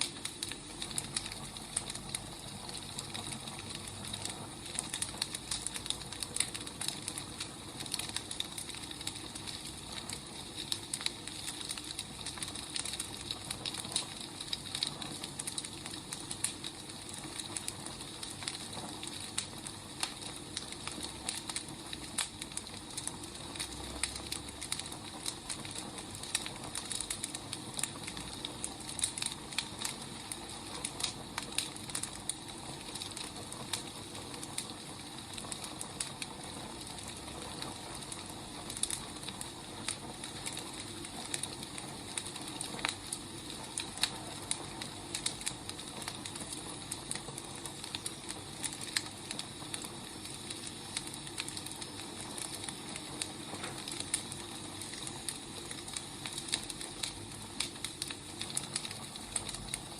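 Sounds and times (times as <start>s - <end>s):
firewood crackling and popping: 0.0s - 59.9s.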